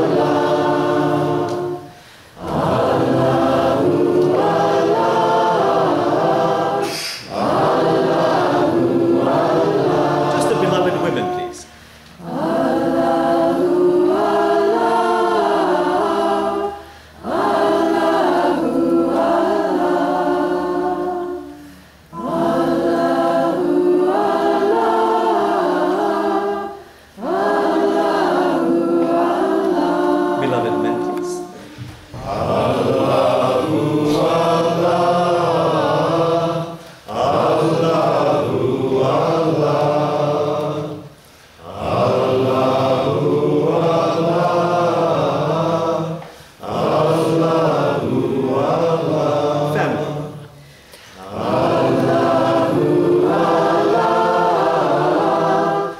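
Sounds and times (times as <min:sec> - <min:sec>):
congregation singing a chant: 0:00.0 - 0:55.9.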